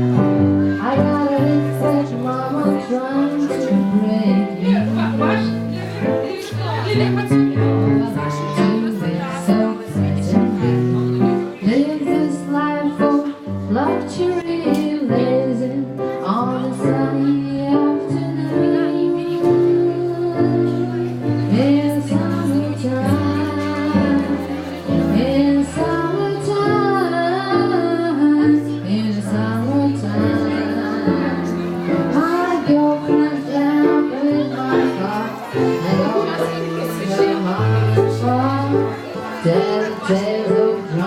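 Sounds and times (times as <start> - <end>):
person singing: 0.0 - 41.0.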